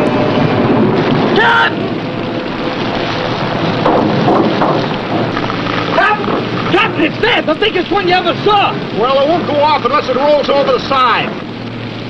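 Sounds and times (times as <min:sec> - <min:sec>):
heavy rain with wind: 0:00.0 - 0:12.0.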